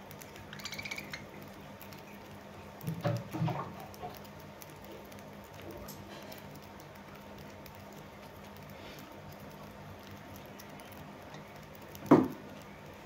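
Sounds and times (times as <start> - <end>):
birds pecking seed from steel bowl: 0.0 - 13.0
low steady hum: 0.0 - 13.0.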